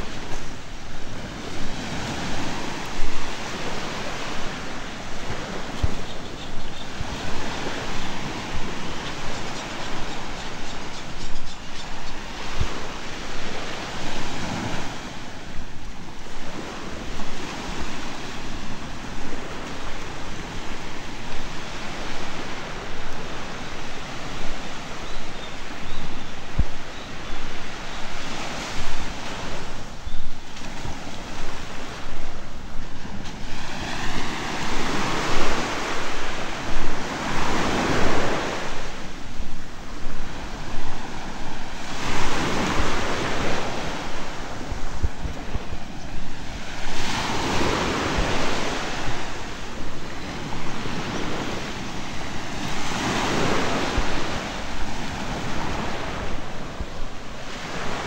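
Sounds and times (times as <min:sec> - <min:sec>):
small waves on sandy shore: 0:00.0 - 0:58.0
wind gusting over microphone: 0:00.0 - 0:58.0.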